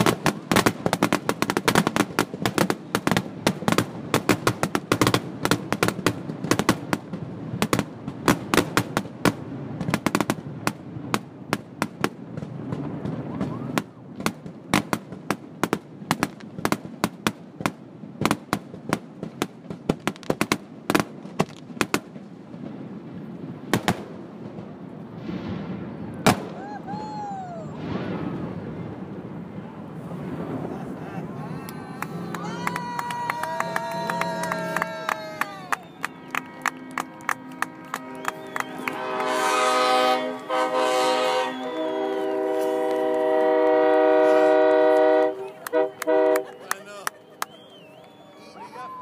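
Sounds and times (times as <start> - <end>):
fireworks bursting and crackling: 0.0 - 48.3.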